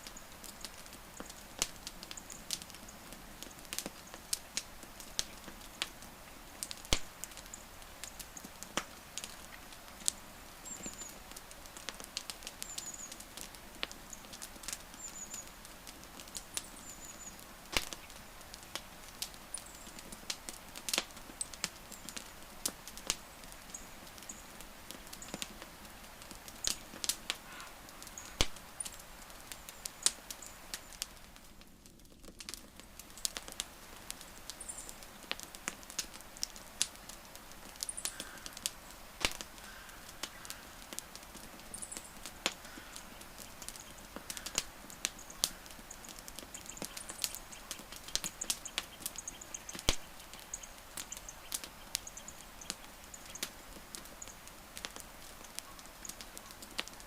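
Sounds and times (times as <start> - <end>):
campfire crackling and popping: 0.0 - 57.0
soft steady hiss: 0.0 - 57.0.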